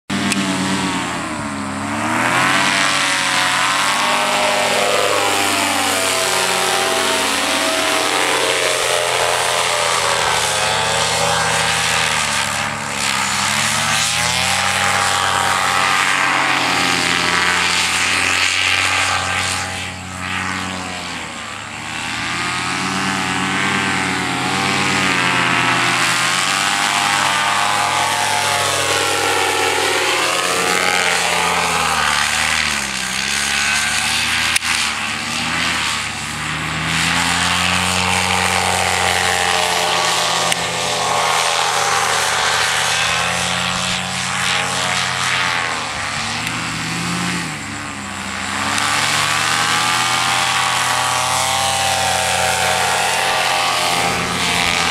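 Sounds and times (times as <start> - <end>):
paramotor engine and propeller: 0.1 - 54.9.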